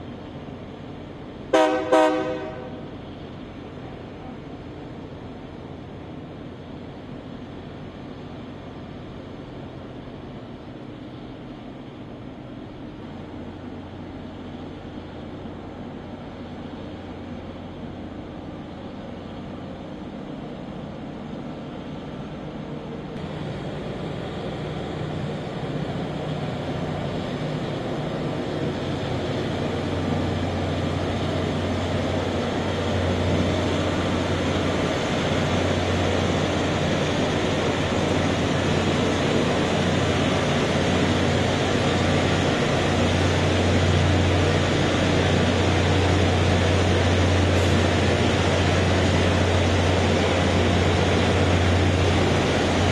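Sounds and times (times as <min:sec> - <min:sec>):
diesel engines droning: 0:10.0 - 0:52.9.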